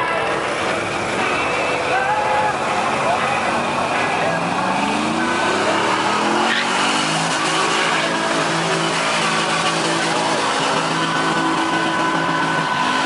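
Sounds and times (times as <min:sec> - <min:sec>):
truck engine at high revs: 0:00.0 - 0:13.0
tyres squealing: 0:00.0 - 0:13.0.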